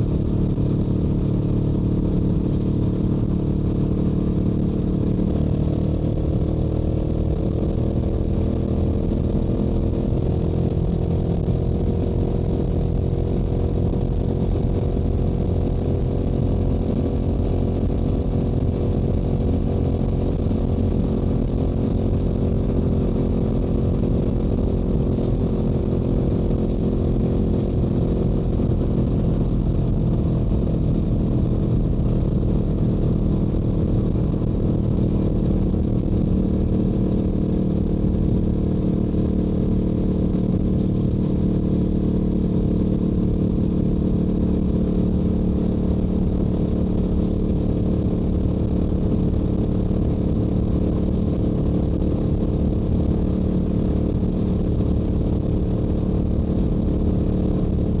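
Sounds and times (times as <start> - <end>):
motorcycle engine cruising: 0.0 - 57.2
low wind rumble: 0.0 - 58.0.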